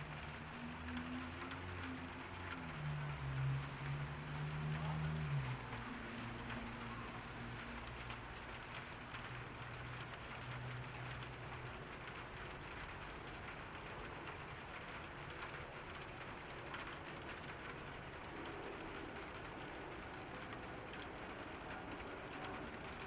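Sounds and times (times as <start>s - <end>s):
rain pattering on a garden: 0.0s - 23.0s.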